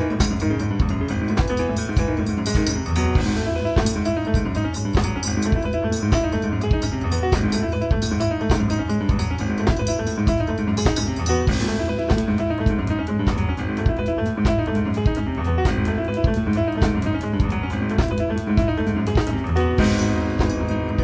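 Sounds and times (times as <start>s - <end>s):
bass: 0.0s - 21.0s
busy drum pattern: 0.0s - 21.0s
piano: 0.0s - 21.0s.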